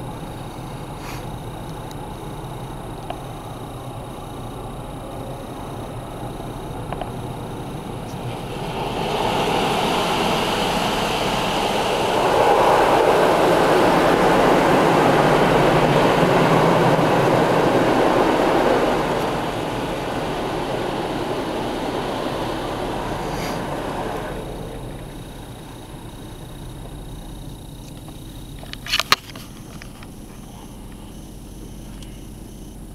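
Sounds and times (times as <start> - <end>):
water jets spraying on car: 0.0 - 32.9.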